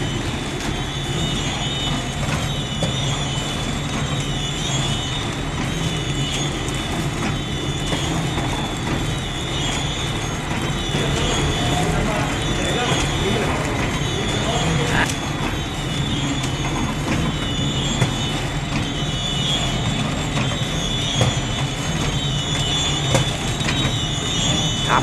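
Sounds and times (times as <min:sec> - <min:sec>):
packing machine hum: 0:00.0 - 0:25.0
wavering high whine: 0:00.0 - 0:25.0.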